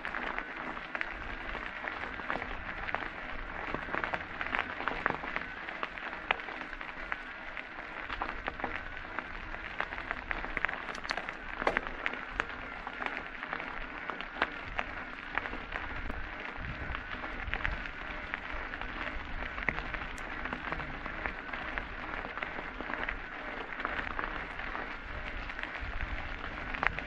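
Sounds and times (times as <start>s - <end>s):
bike clicks and rattles: 0.0s - 27.0s
bike tyres on rough trail: 0.0s - 27.0s
wind rumble on microphone: 0.0s - 27.0s.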